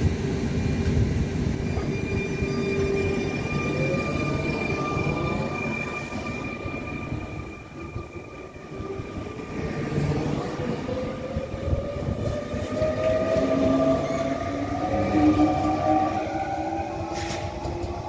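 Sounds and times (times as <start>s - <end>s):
electric train traction whine: 0.0s - 18.0s
high-pitched whines: 0.8s - 17.1s.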